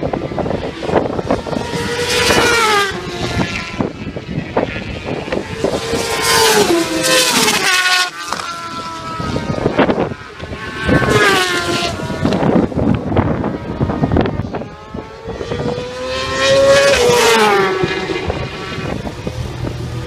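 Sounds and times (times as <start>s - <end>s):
motorcycles passing at speed: 0.0s - 20.0s.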